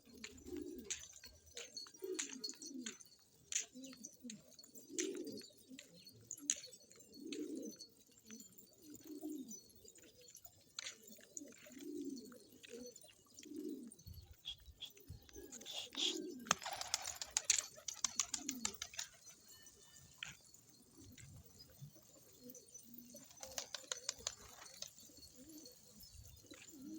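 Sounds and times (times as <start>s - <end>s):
pigeons cooing: 0.0s - 3.0s, 3.6s - 19.5s, 20.1s - 26.9s.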